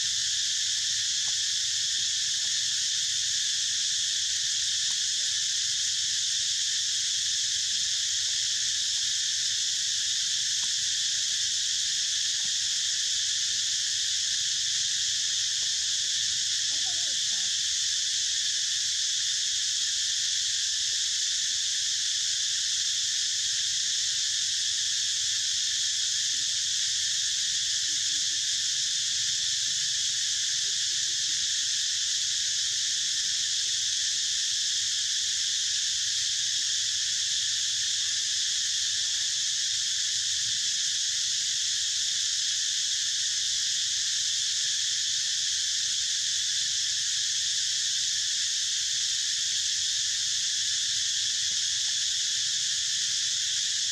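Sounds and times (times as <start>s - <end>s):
insect chorus shrilling: 0.0s - 53.9s.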